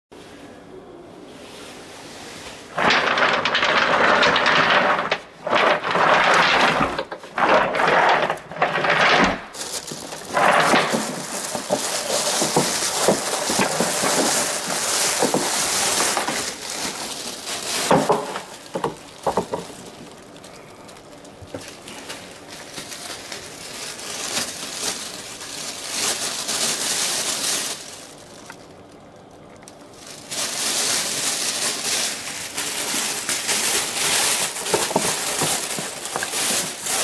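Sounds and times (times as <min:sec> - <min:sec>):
plastic garbage bag rustling: 0:01.7 - 0:37.0.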